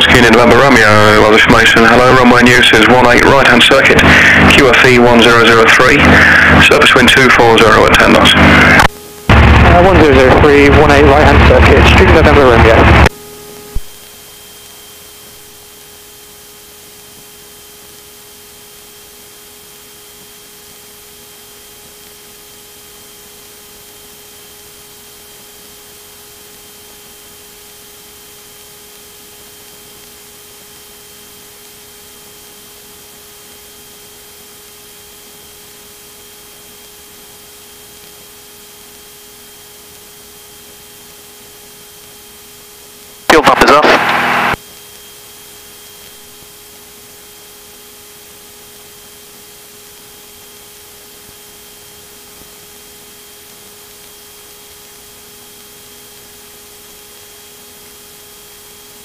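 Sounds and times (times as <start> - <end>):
radio static hiss: 0.0 - 28.3, 28.9 - 55.6
thin high whine: 0.0 - 59.0.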